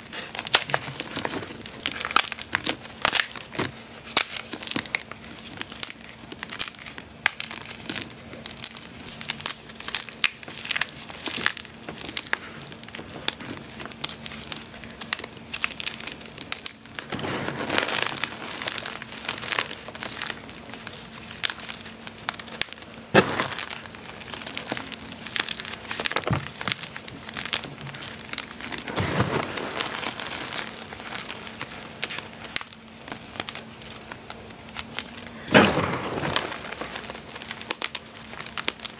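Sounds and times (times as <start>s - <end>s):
chalk crumbling by hand: 0.0s - 38.9s.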